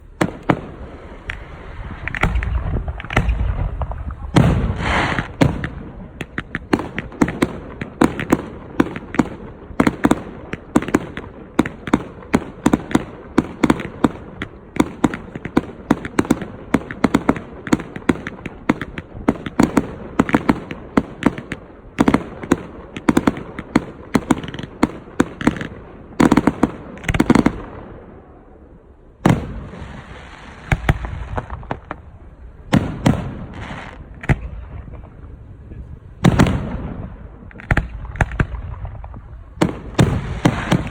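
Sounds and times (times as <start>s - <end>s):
heavy firework booms: 0.0s - 28.5s, 29.2s - 40.9s
fireworks cracking and crackling: 0.0s - 40.9s.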